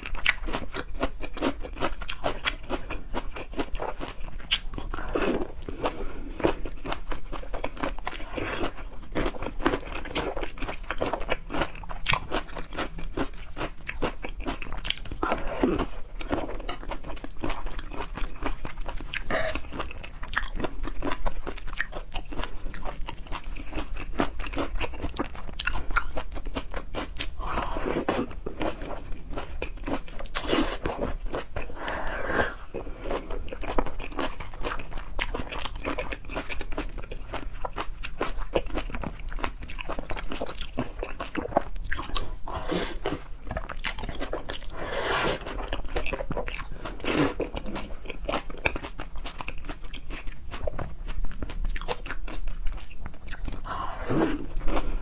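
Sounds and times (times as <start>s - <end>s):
person chewing crunchy seafood: 0.0s - 55.0s.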